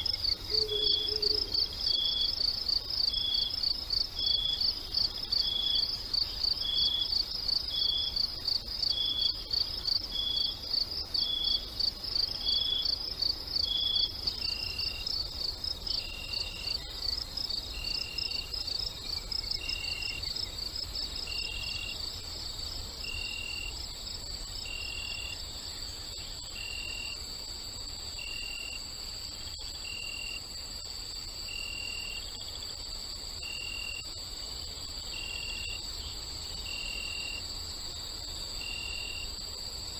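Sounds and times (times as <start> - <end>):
crickets trilling: 0.0 - 39.9
low short cricket chirps: 0.0 - 39.9.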